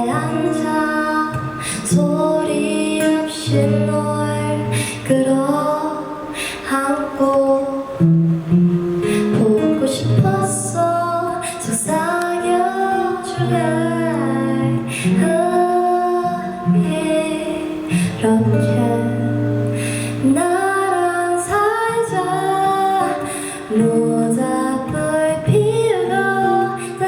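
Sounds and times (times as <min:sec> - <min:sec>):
plucked guitar: 0:00.0 - 0:27.0
woman singing: 0:00.0 - 0:27.0.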